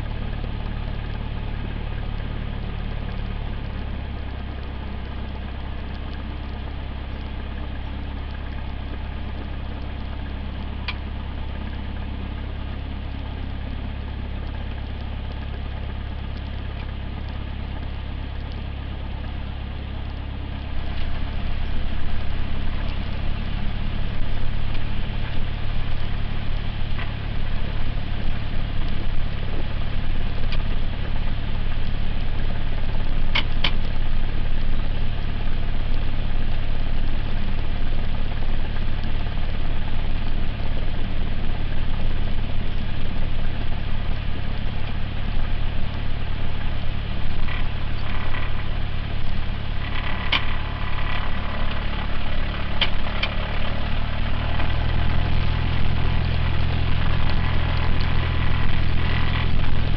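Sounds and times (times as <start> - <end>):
propeller engine droning: 0.0 - 59.9.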